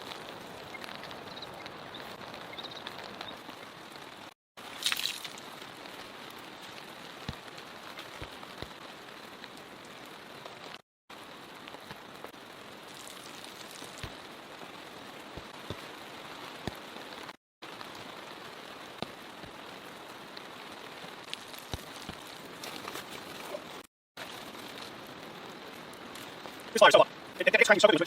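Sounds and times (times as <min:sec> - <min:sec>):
heavy rain hissing: 0:00.0 - 0:28.0.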